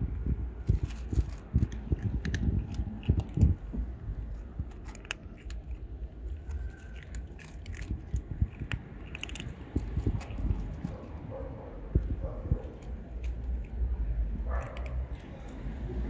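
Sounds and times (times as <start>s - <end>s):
cats crunching dry kibble: 0.0s - 16.0s.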